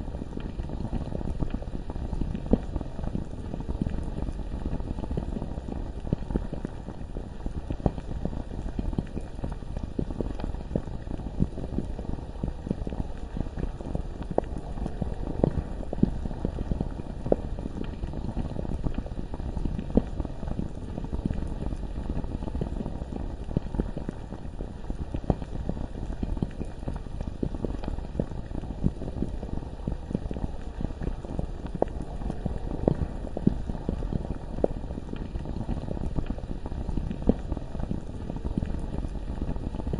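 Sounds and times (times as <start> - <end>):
lava bubbling and popping: 0.0 - 39.9.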